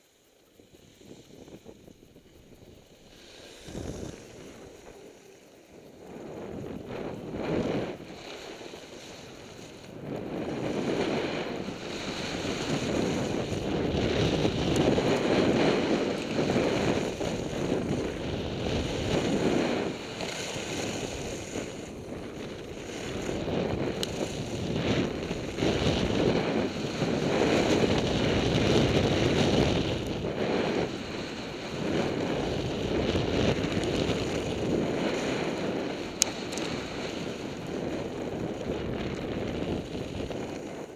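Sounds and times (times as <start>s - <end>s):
skis sliding on snow: 0.0s - 40.9s
wind rushing over microphone: 0.0s - 40.9s.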